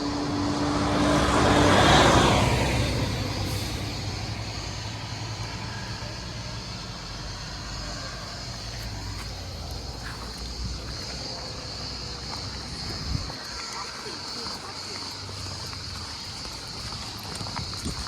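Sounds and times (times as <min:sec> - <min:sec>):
car passing: 0:00.0 - 0:18.0.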